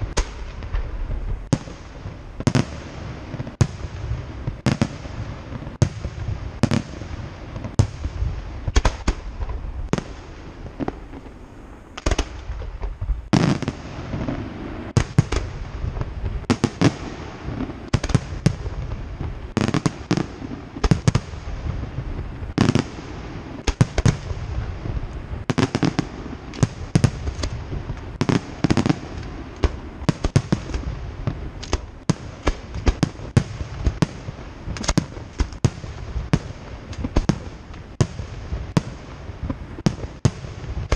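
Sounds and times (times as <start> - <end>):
fireworks bursting with bangs: 0.0 - 40.9.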